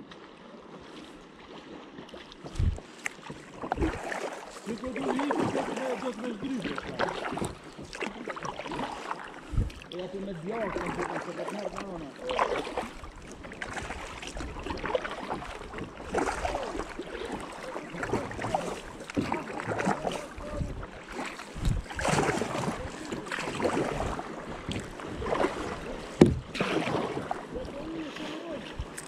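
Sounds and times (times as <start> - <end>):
kayak paddle splashing in water: 0.0 - 29.0
water trickling off paddle: 0.1 - 29.0.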